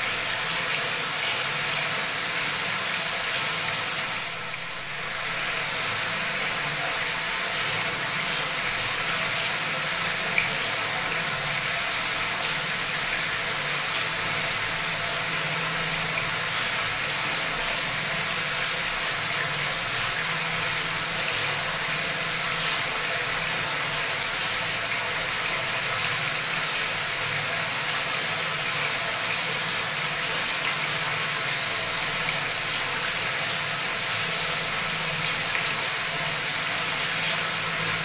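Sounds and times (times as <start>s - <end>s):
tap water pouring into tank: 0.0s - 38.0s.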